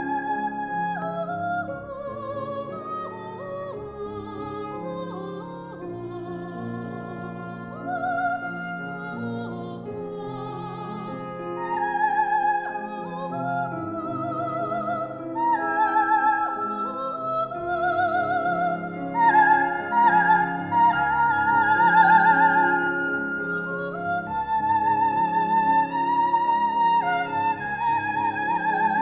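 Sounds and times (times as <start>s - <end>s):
instrumental accompaniment: 0.0s - 29.0s
soprano singing opera: 0.0s - 29.0s.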